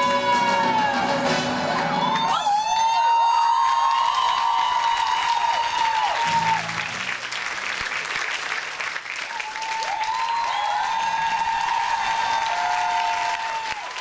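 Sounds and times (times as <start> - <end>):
high held whoops: 0.0 - 6.8, 9.3 - 14.0
audience applauding and cheering: 0.0 - 14.0.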